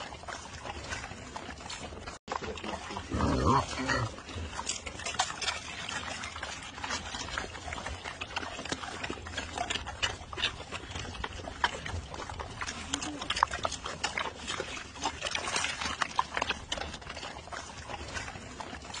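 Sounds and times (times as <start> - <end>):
pigs crunching and chewing: 0.0 - 19.0.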